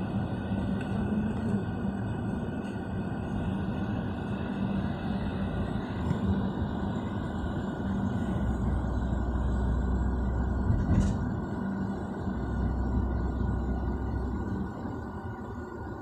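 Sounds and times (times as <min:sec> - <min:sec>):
faint hum: 0:00.0 - 0:16.0
vehicle road and engine rumble: 0:00.0 - 0:16.0.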